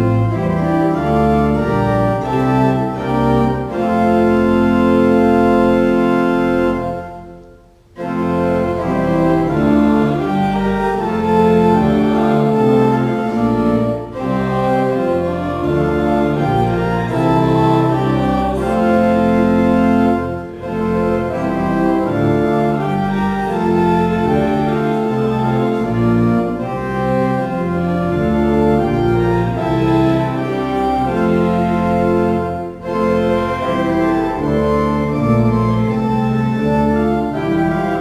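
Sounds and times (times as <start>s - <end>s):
church organ playing a hymn: 0.0s - 38.0s.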